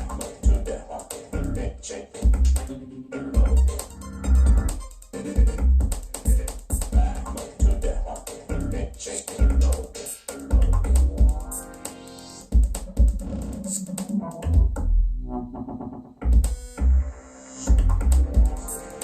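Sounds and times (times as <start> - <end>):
electronic music with heavy bass: 0.0 - 19.0.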